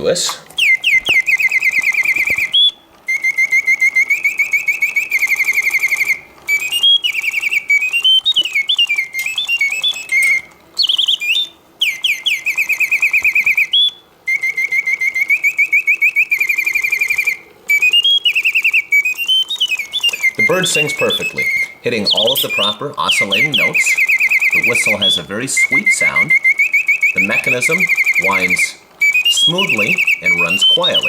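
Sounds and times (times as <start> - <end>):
mechanical bird whistling trills: 0.0 - 31.0.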